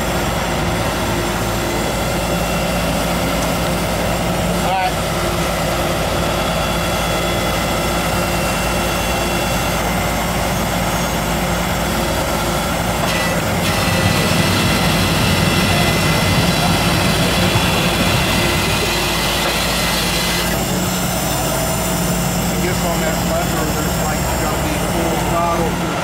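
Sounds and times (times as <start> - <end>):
mechanical drone: 0.0 - 26.0
whining tones: 0.0 - 26.0.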